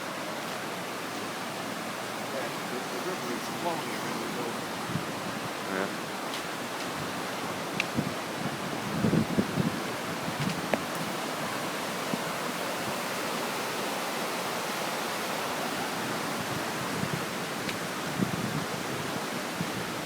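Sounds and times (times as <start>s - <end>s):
fast-flowing river water rushing: 0.0s - 20.0s.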